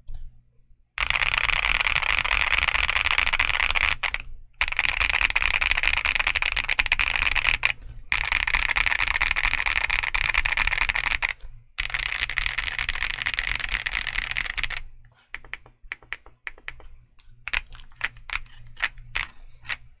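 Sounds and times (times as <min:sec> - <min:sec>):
mechanical keyboard typing: 0:01.0 - 0:16.8, 0:17.5 - 0:19.9.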